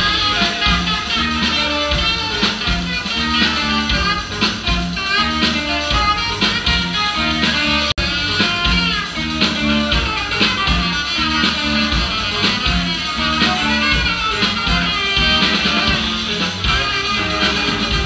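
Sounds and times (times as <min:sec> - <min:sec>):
guitar: 0:00.0 - 0:18.0
live band playing: 0:00.0 - 0:18.0.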